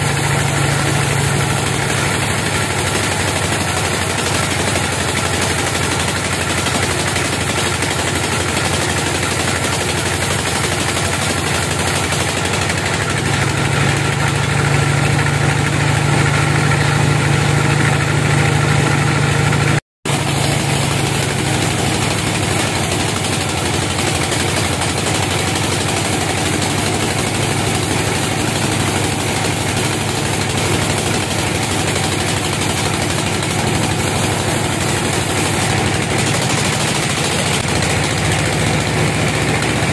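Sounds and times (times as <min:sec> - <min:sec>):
sawmill drone: 0:00.0 - 0:39.9.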